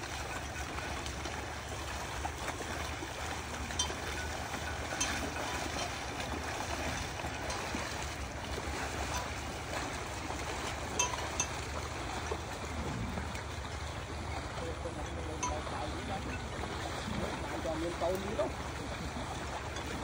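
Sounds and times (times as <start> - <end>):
water buffalo splashing in water: 0.0 - 20.0.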